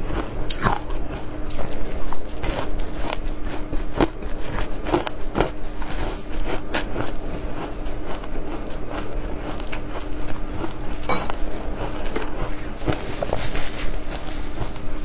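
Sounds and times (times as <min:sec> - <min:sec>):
ice crunching while chewed: 0:00.0 - 0:15.0.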